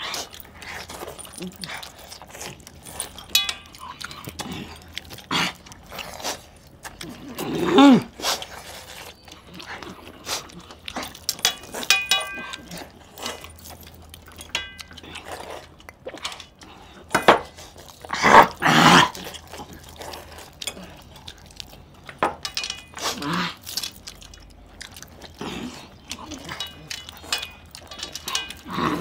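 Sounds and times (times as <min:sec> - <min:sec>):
chewing and sucking on meat: 0:00.0 - 0:29.0
wet eating noise: 0:00.0 - 0:29.0.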